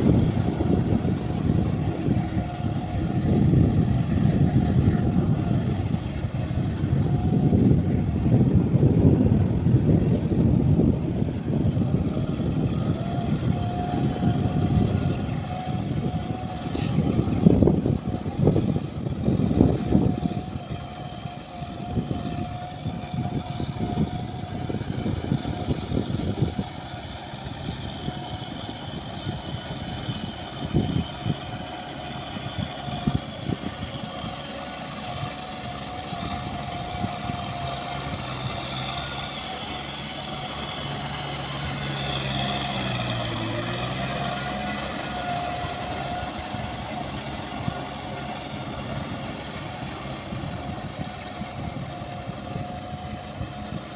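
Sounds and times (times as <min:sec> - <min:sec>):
low rumbling: 0:00.0 - 0:53.9
tractor diesel engine droning: 0:00.0 - 0:53.9.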